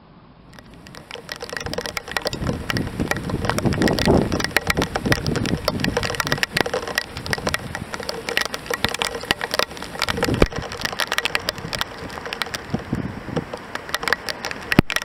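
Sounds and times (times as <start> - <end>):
raindrops ticking near microphone: 0.5 - 15.0
heavy rain hissing: 0.8 - 14.8.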